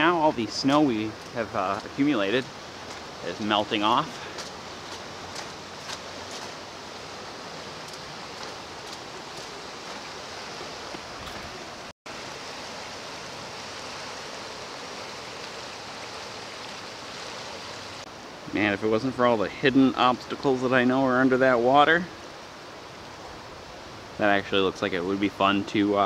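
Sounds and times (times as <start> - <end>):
flooded creek rushing: 0.0 - 26.0.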